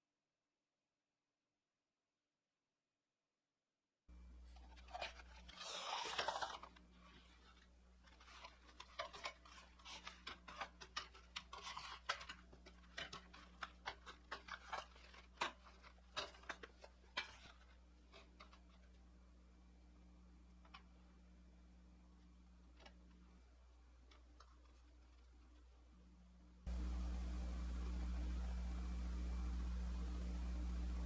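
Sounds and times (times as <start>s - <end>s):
low steady hum: 4.1s - 31.0s.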